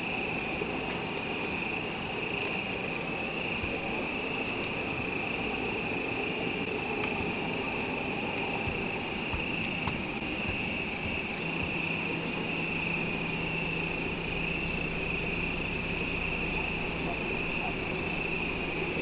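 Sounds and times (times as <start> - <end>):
crickets chirping: 0.0 - 19.0
low steady hum: 0.0 - 19.0
pulsing insect trill: 0.0 - 19.0.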